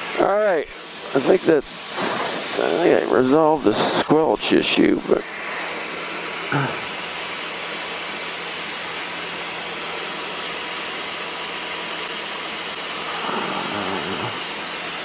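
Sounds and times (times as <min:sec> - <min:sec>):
aircraft engine and airflow hiss: 0:00.0 - 0:15.0.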